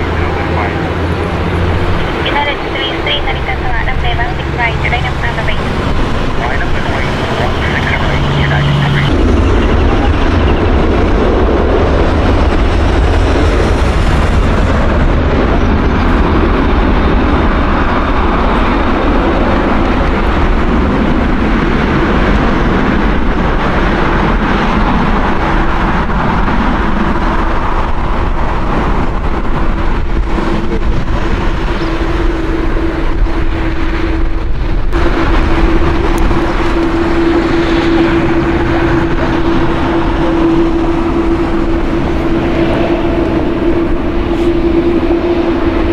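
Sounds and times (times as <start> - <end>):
jet engines rumbling: 0.0 - 45.9
steady whine: 0.0 - 45.9.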